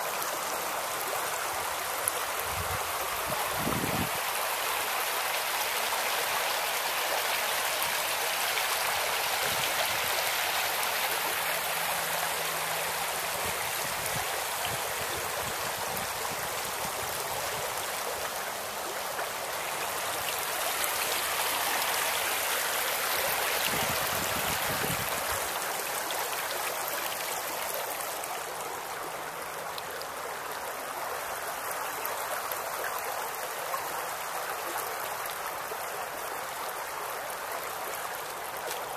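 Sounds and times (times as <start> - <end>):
creek water babbling over rocks: 0.0 - 38.9.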